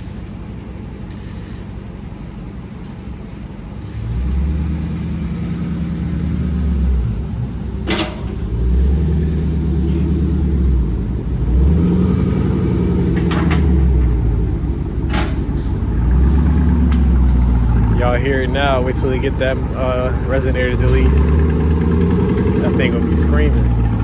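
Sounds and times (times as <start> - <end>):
loud car engine exhaust: 0.0 - 24.0
sharp exhaust cracks: 0.0 - 24.0.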